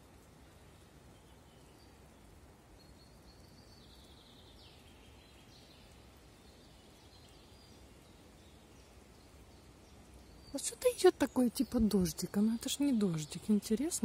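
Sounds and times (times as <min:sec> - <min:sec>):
faint ambient hiss: 0:00.0 - 0:14.0.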